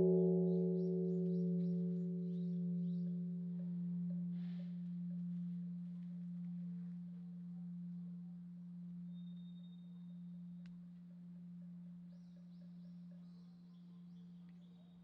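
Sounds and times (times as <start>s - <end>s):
large bronze temple bell ringing: 0.0s - 12.1s.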